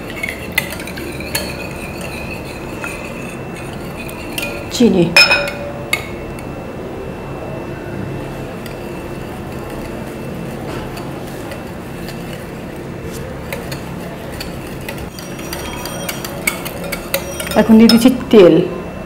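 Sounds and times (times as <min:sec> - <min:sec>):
whisk clinking against glass bowl: 0:00.0 - 0:06.5, 0:08.6 - 0:18.3
steady low hum: 0:00.0 - 0:19.0.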